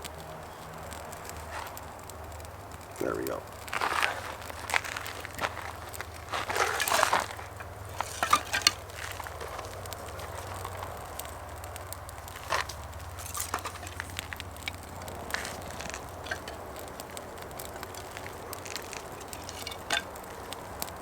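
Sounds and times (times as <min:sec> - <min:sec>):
campfire crackling: 0:00.0 - 0:21.0
wood crunching: 0:00.0 - 0:21.0.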